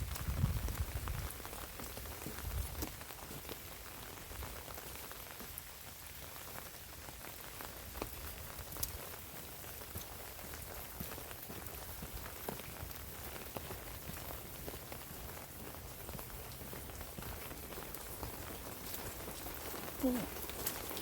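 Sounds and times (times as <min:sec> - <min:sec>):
raindrops ticking close by: 0:00.0 - 0:21.0
steady rain falling: 0:00.0 - 0:21.0.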